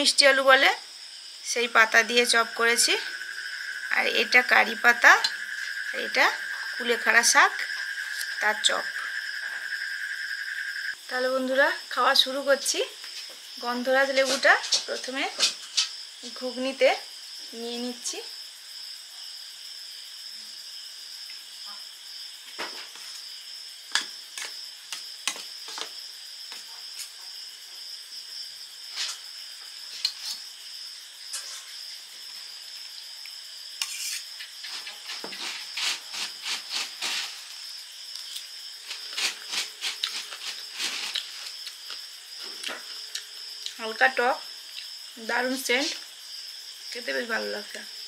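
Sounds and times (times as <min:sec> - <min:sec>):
insect chirring: 0:00.0 - 0:48.0.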